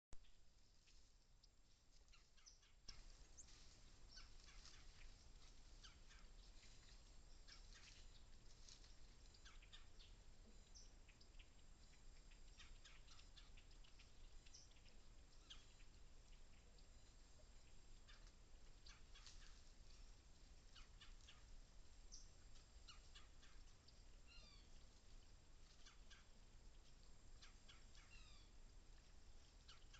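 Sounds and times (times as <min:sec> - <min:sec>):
faint bird chirps: 0:00.2 - 0:29.9.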